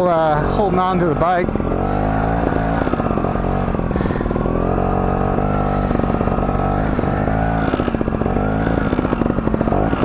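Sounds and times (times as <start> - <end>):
motorcycle engine popping at low revs: 0.0 - 10.0.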